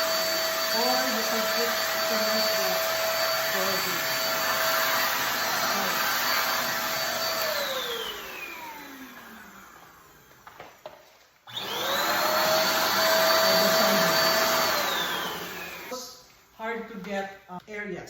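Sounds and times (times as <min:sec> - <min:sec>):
vacuum cleaner whining: 0:00.0 - 0:17.2.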